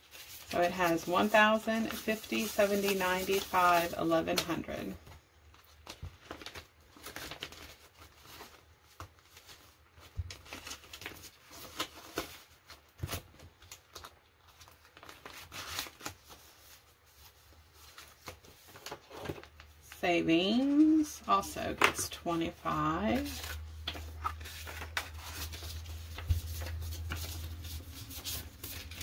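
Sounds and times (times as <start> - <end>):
banknotes and plastic envelope rustling: 0.0 - 29.0.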